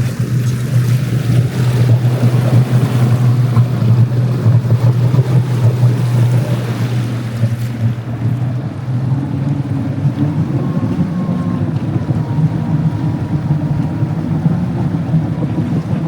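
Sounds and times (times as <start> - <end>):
boat motor humming: 0.0 - 16.0
water noise: 0.0 - 16.0
wind: 0.0 - 16.0.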